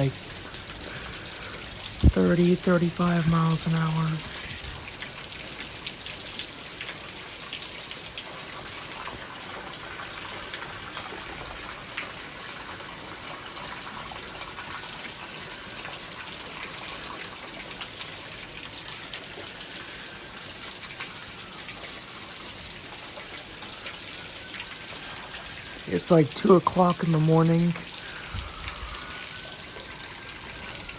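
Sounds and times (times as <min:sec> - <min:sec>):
gushing water: 0:00.0 - 0:30.9
heavy rain falling: 0:00.0 - 0:30.9.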